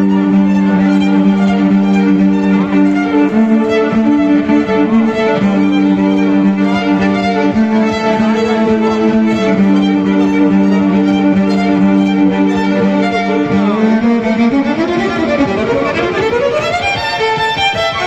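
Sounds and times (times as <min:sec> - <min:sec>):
violin playing slow low notes: 0:00.0 - 0:18.0.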